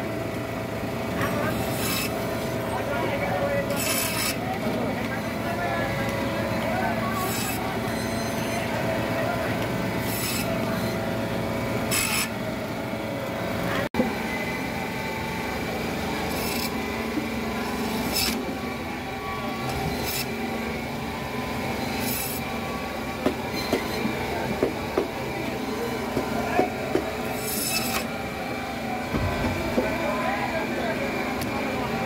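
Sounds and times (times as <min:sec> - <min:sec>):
market din: 0:00.6 - 0:12.8, 0:13.4 - 0:32.0.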